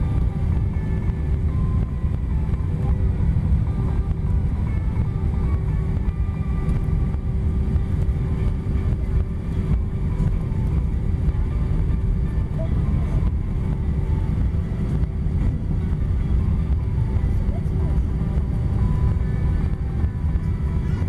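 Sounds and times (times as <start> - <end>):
constant hum: 0.0 - 21.0
jet engine rumble in cabin: 0.0 - 21.0.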